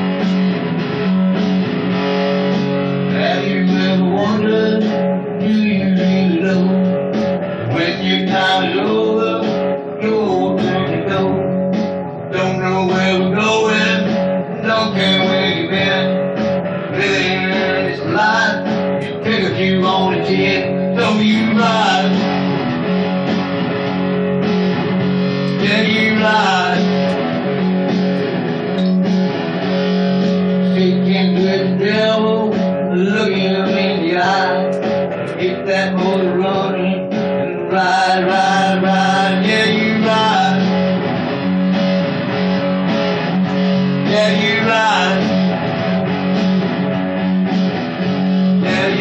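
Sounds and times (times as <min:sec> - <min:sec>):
guitar music: 0:00.0 - 0:49.0.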